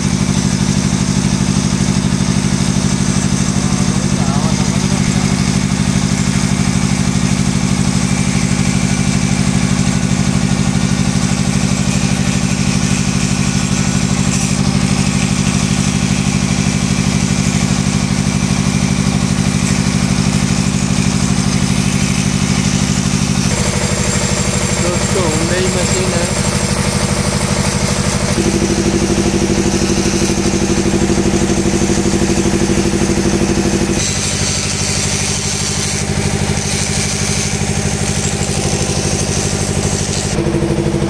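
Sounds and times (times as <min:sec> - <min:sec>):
die grinder grinding metal: 0:00.0 - 0:41.0
loud engine-like drone: 0:00.0 - 0:41.0.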